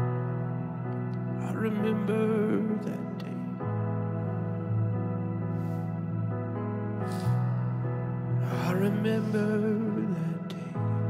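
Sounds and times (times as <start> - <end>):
keyboard playing soft chords: 0.0 - 11.0.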